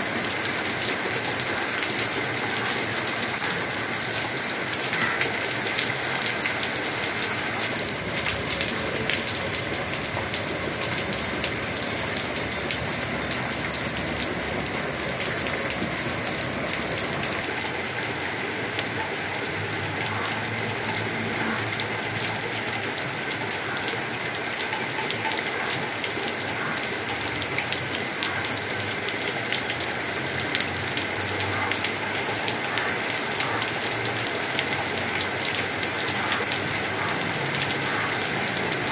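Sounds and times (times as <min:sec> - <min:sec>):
heavy rain pouring: 0:00.0 - 0:38.9
raindrop ticks: 0:00.3 - 0:17.8, 0:18.7 - 0:38.9.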